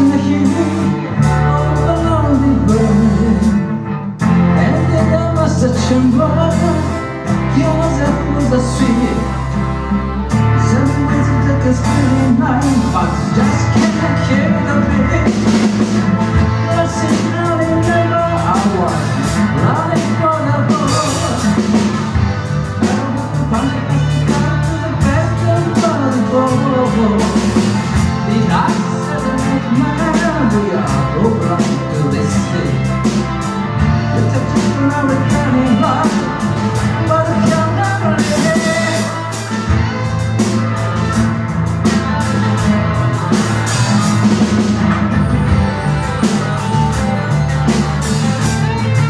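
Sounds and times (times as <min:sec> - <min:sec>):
live rock band playing: 0:00.0 - 0:49.0.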